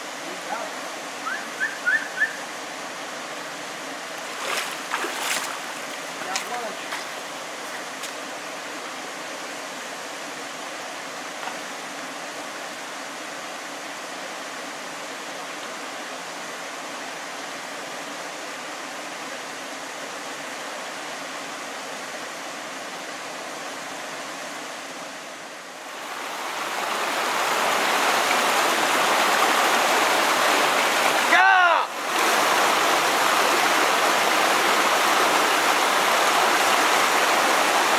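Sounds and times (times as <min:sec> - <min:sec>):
creek water rushing over boulders: 0:00.0 - 0:37.9.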